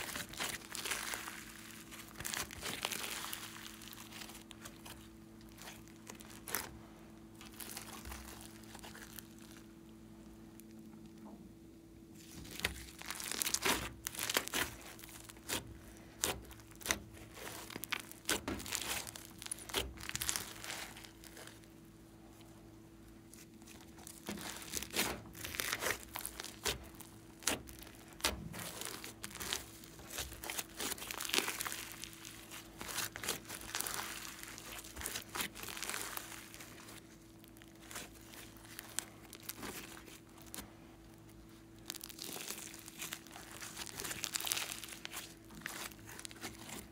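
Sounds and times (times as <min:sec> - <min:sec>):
slime tearing: 0:00.0 - 0:09.6, 0:12.2 - 0:21.7, 0:23.3 - 0:46.9
slime crackling and popping: 0:00.0 - 0:09.8, 0:12.2 - 0:21.7, 0:23.3 - 0:46.9.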